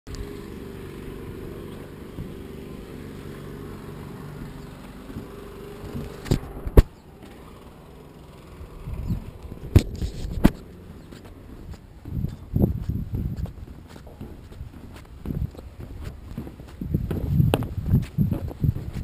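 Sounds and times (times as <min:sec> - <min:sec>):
low mechanical hum: 0:00.1 - 0:19.0.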